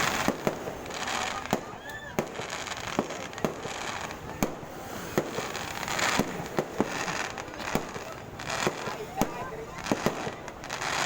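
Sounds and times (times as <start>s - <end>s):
continuous fireworks crackling: 0.0s - 11.0s
firecracker bangs: 0.0s - 11.0s.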